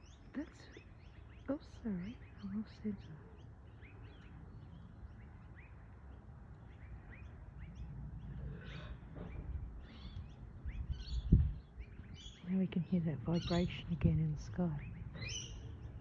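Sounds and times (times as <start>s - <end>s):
low rumble in the sky: 0.0s - 16.0s
small birds chirping: 0.0s - 16.0s.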